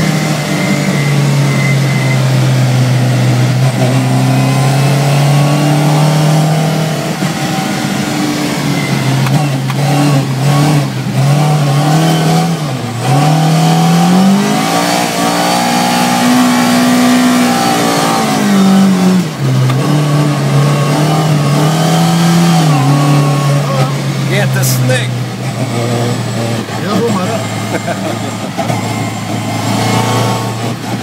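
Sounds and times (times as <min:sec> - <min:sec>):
race car engine from inside cabin: 0:00.0 - 0:31.0.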